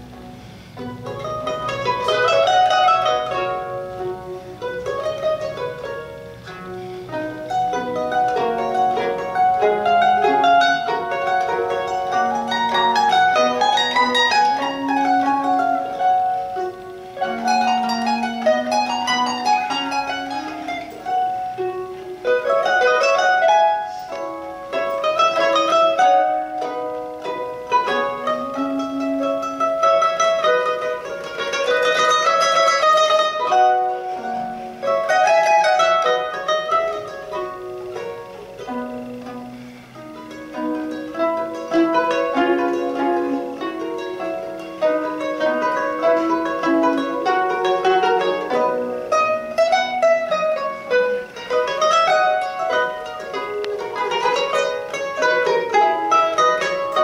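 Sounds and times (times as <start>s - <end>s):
two mandolins playing: 0.0s - 57.0s.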